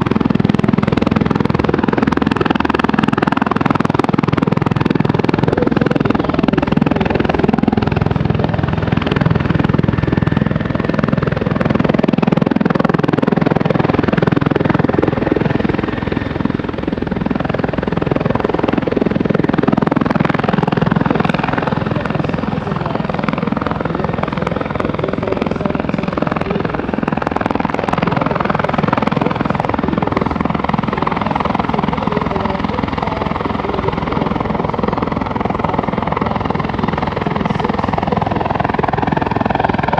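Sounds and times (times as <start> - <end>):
helicopter rotor beating: 0.0 - 39.9
helicopter turbine noise: 0.0 - 39.9.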